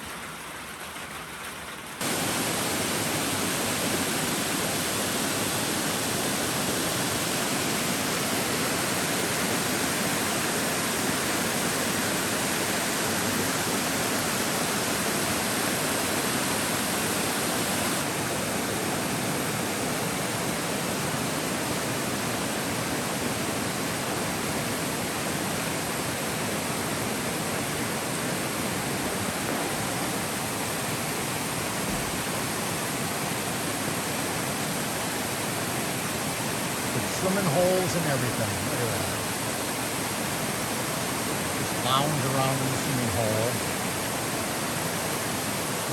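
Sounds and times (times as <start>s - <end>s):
stream water rushing: 2.0s - 45.9s.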